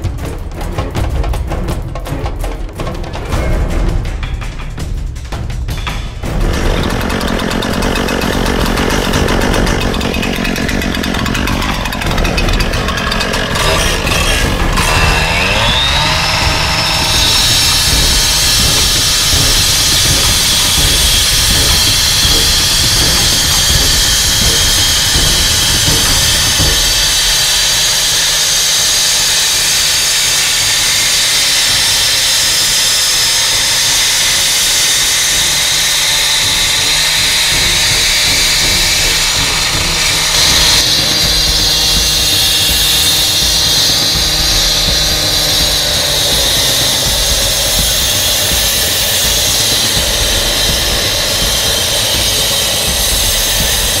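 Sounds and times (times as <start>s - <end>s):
cut-off saw engine: 5.8s - 54.0s
blade grinding concrete: 6.2s - 54.0s.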